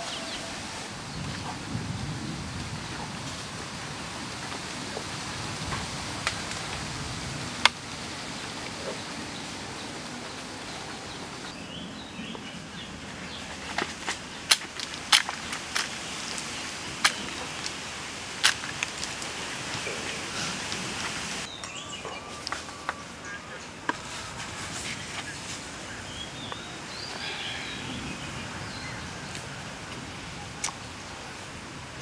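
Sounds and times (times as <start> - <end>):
outdoor background hiss: 0.0 - 32.0.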